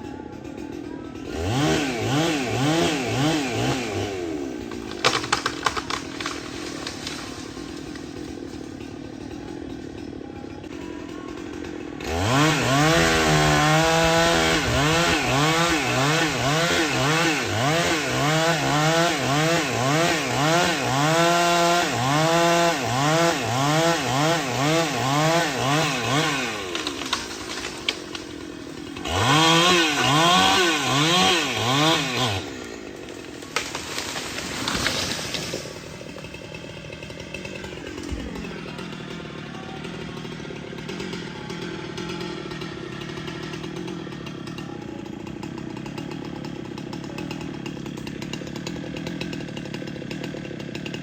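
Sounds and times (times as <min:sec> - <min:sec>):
chainsaw idling and revving: 0:00.0 - 0:51.0.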